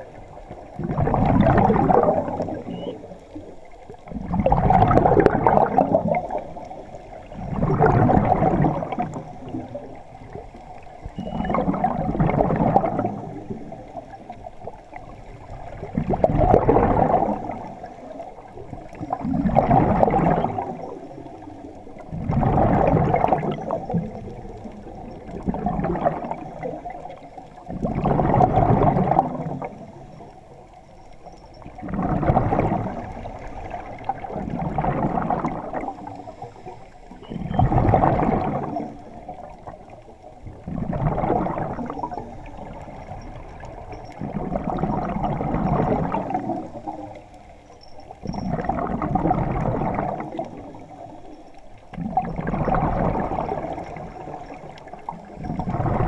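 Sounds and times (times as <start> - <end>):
exhaled bubbles gurgling: 0.0 - 56.0.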